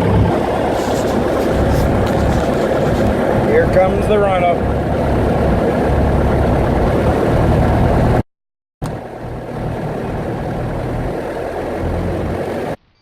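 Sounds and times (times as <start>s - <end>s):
light aircraft engine and propeller: 0.0s - 8.2s, 8.8s - 12.8s.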